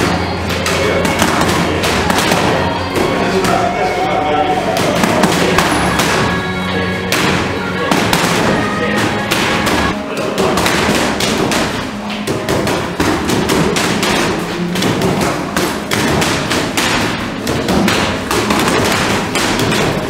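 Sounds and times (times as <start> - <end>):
boxing gloves hitting mitts: 0.0 - 3.7, 4.7 - 6.4, 7.0 - 20.0.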